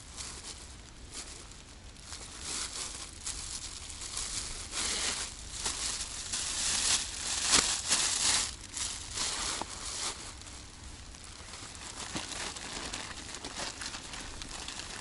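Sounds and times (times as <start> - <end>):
material rustling and crinkling: 0.0 - 15.0.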